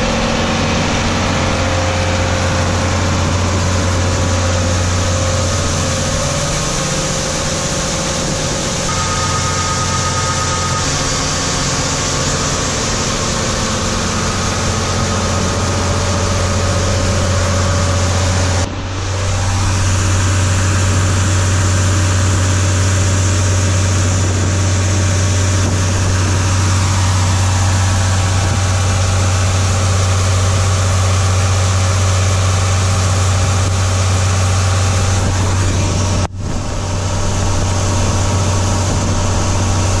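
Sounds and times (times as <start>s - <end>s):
diesel engine low drone: 0.0s - 40.0s.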